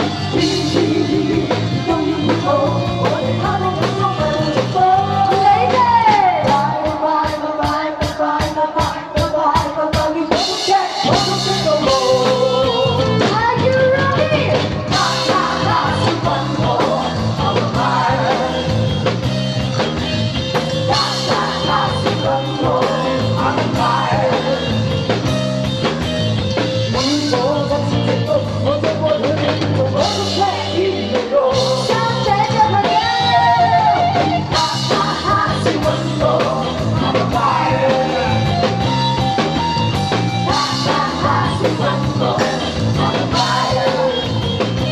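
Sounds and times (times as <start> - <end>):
person singing: 0.0 - 19.2, 20.8 - 26.0, 26.8 - 39.0, 40.5 - 44.9
guitar: 0.0 - 44.9
steady drum beat: 0.0 - 44.9.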